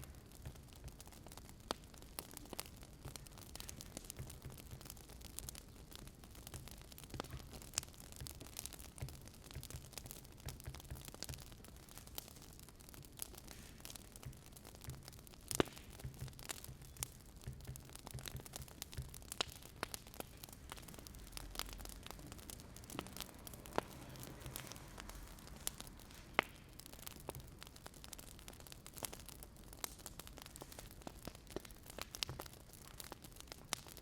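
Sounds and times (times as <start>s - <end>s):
faint low hiss: 0.0s - 34.0s
wood fire crackling: 0.0s - 34.0s.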